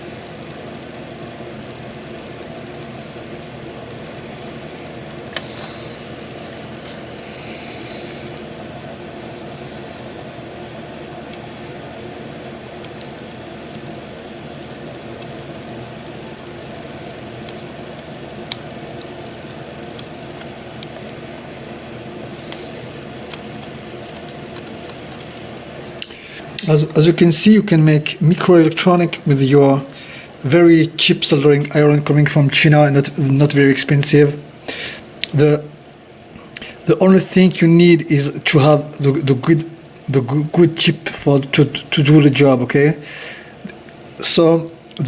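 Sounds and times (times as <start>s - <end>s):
mechanical hum of fan: 0.0s - 45.0s.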